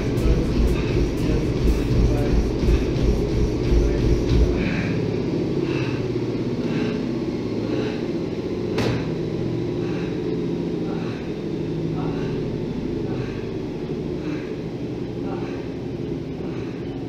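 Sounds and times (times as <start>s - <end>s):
heavy panting breaths: 0.0s - 17.0s
treadmill hum: 0.0s - 17.0s.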